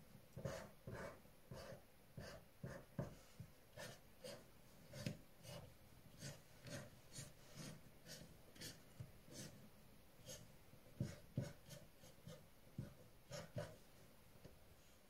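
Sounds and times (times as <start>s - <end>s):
pencil scratching on paper: 0.4s - 9.6s, 10.2s - 13.8s.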